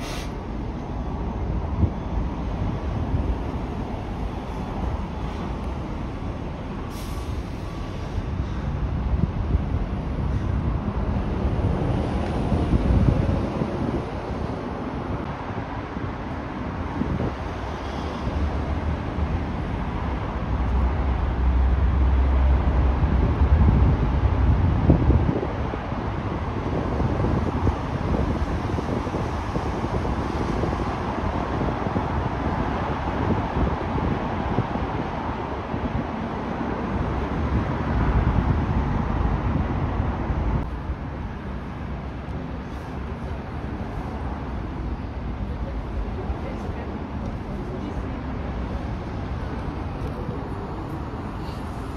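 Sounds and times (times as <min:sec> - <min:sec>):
buses and traffic passing: 0:00.0 - 0:51.9
diesel engine rumble: 0:00.0 - 0:51.9
wind buffeting microphone: 0:00.0 - 0:51.9.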